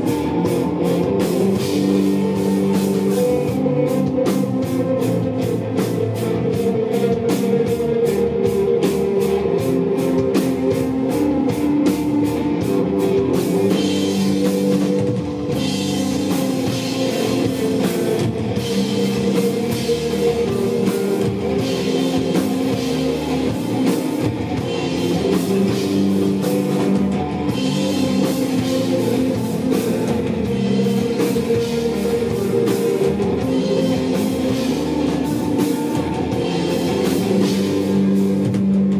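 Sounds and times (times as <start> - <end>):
drum kit: 0.0 - 38.9
electric guitar and bass chords: 0.0 - 38.9.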